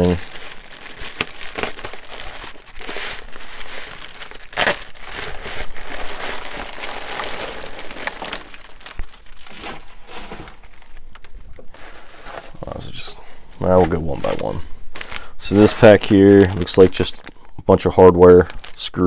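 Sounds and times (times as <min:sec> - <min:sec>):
bubble wrap crinkling: 0:00.0 - 0:19.0.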